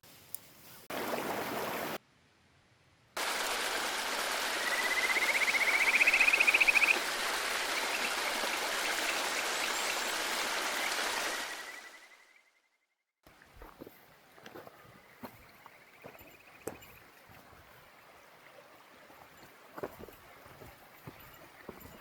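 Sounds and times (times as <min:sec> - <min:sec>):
mountain stream flowing: 0:00.8 - 0:02.0, 0:03.2 - 0:12.1, 0:13.2 - 0:22.0.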